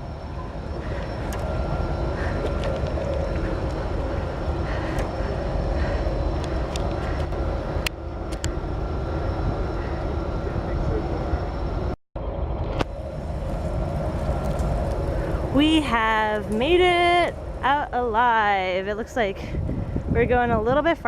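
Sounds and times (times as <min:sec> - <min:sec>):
compressor station industrial drone: 0:00.0 - 0:21.0.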